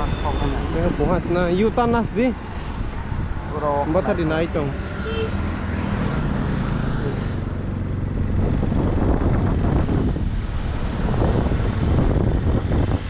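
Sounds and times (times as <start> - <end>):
wind rumbling on microphone: 0.0 - 3.6, 5.4 - 13.0.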